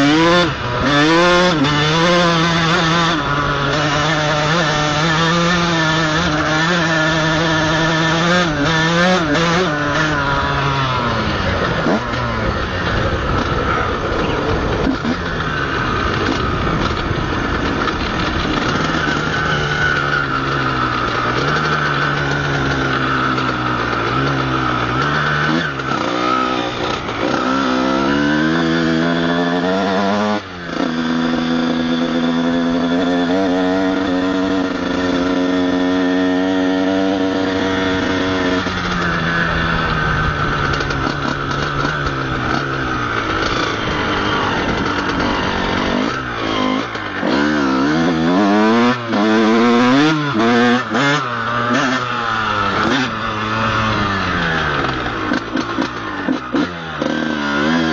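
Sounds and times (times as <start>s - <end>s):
motocross engine revving: 0.0s - 57.9s.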